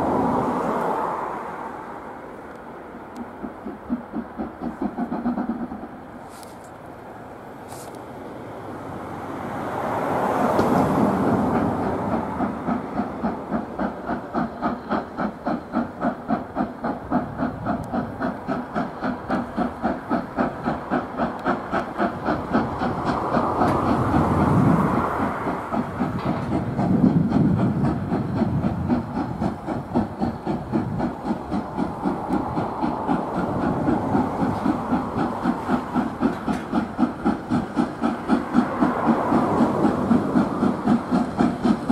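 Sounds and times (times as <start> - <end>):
steady hiss of steam: 0.0 - 41.9
steam locomotive exhaust beating: 2.8 - 6.8, 9.6 - 41.9.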